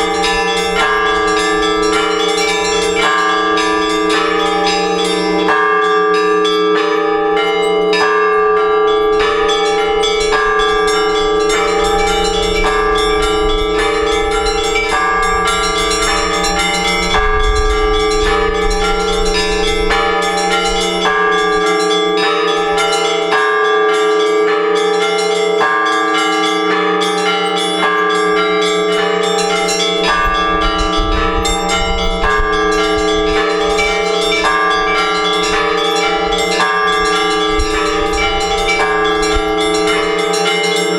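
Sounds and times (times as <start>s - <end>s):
large bells humming: 0.0s - 40.9s
small church bells striking: 0.0s - 40.9s.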